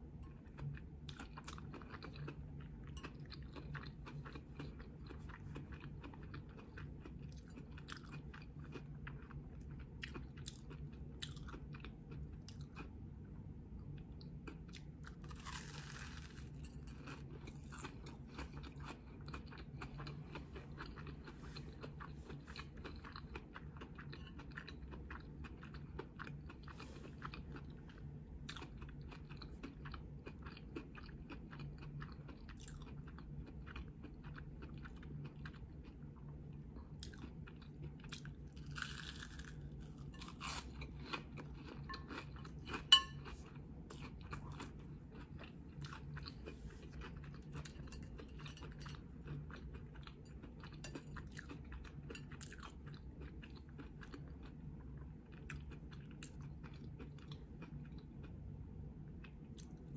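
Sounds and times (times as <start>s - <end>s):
crunchy food chewing: 0.3s - 13.0s, 13.9s - 58.4s.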